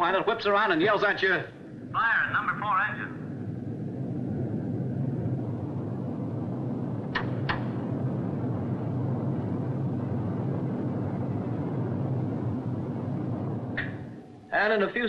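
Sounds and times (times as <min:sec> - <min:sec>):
aircraft radial engines droning: 0:00.0 - 0:15.0.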